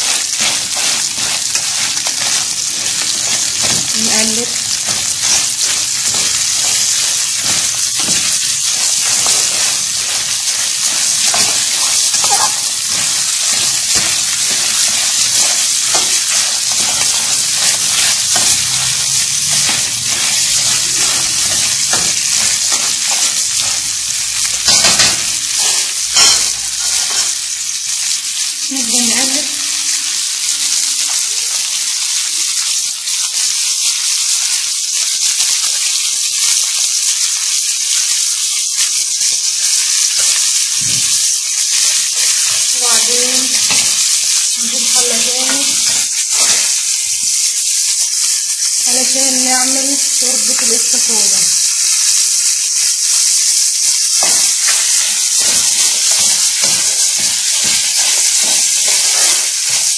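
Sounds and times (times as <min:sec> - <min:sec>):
crayfish sizzling in hot oil: 0:00.0 - 0:59.9
metal tongs stirring in pan: 0:00.0 - 0:59.9.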